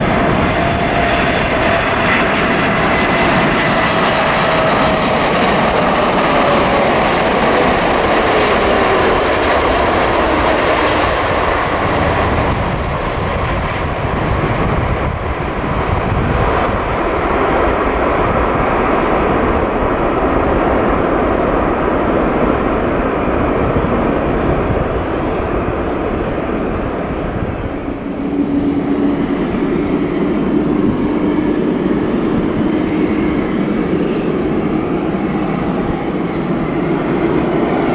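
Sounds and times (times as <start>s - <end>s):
jet engines roaring: 0.0s - 37.9s.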